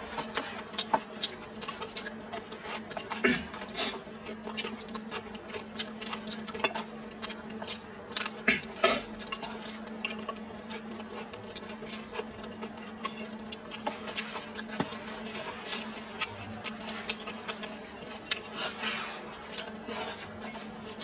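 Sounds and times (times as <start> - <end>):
chewing and lip smacks: 0.0 - 21.0.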